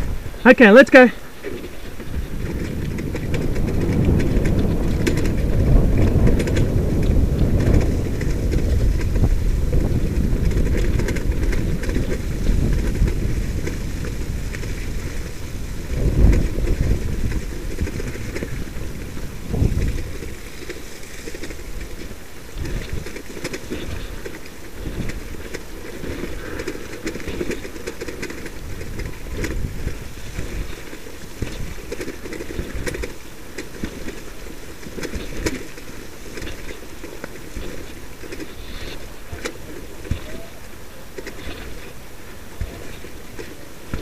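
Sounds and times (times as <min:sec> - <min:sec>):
sled jolts: 0:00.0 - 0:44.0
sled rolling rumble on dirt: 0:00.0 - 0:44.0
wind buffeting microphone: 0:00.0 - 0:44.0.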